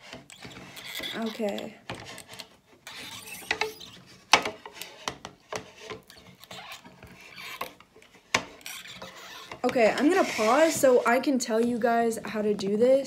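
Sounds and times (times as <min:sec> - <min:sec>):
can opener clicking and scraping: 0:00.0 - 0:10.9.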